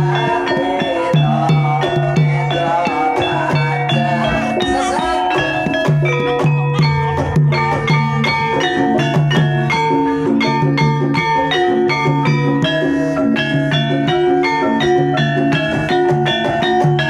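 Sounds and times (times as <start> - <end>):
gamelan music: 0.0 - 17.0.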